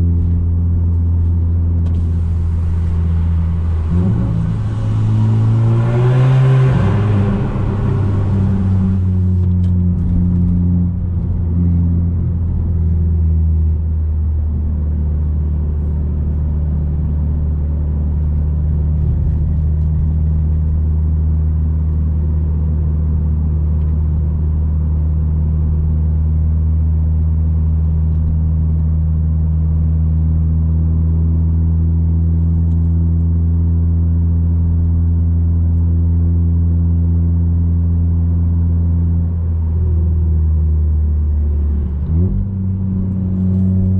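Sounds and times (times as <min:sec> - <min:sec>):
car engine droning in cabin: 0:00.0 - 0:43.9.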